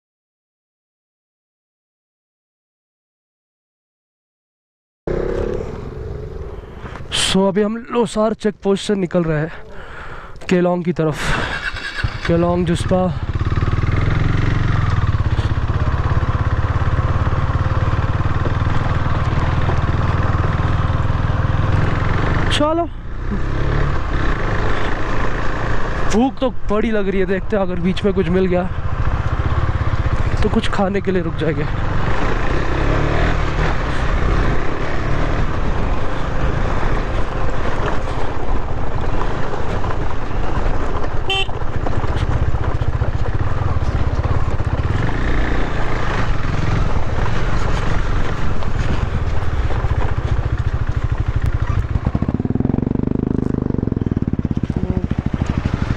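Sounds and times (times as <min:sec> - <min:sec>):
motorcycle engine running: 0:05.1 - 0:07.4, 0:11.2 - 0:55.9.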